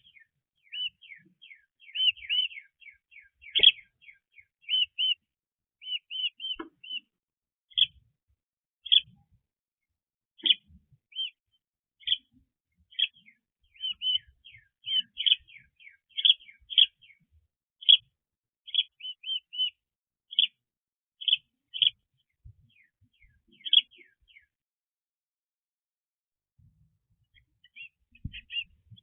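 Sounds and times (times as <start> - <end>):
small birds chirping: 0.0 - 8.2, 8.8 - 9.3, 10.4 - 24.6, 27.2 - 29.0.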